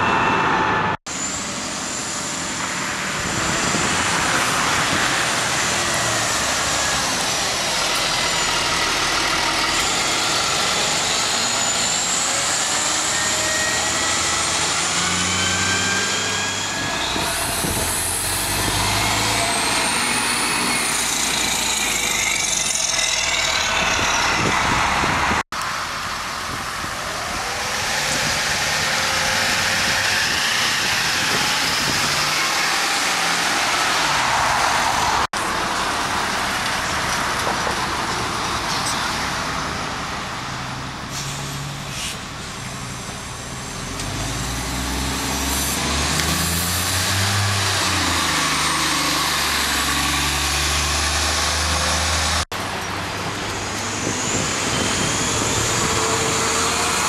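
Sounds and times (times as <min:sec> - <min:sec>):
buses accelerating with engine whine: 0:00.0 - 0:57.0.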